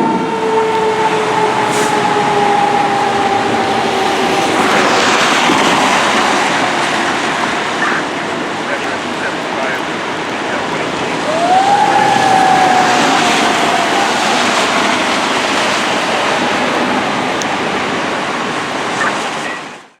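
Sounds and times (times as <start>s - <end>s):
fire engine siren wailing: 0.0s - 20.0s
road noise: 0.0s - 20.0s
truck engine rumble: 0.0s - 20.0s.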